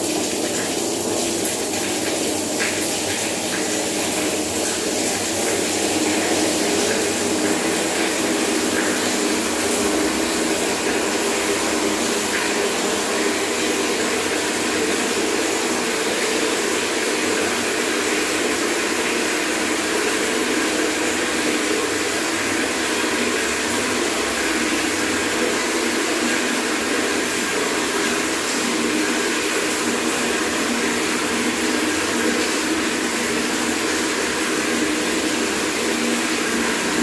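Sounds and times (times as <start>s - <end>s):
tap water pouring into bucket: 0.0s - 37.0s.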